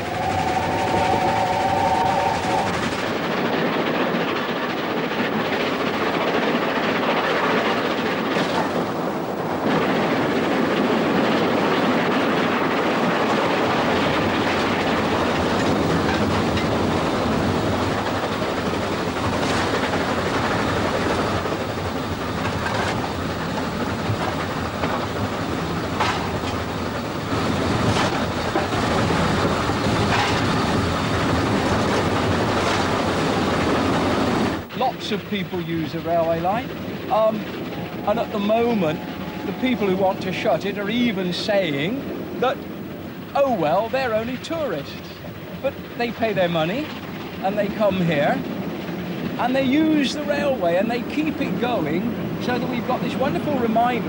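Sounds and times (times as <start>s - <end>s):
train rumble: 0.0s - 54.0s
train wheels clicking: 0.0s - 54.0s.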